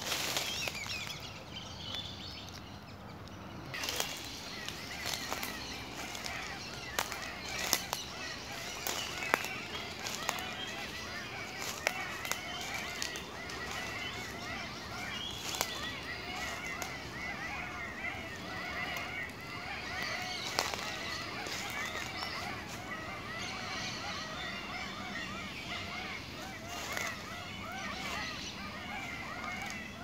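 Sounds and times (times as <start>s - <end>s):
chorus of birds calling: 0.0s - 30.0s.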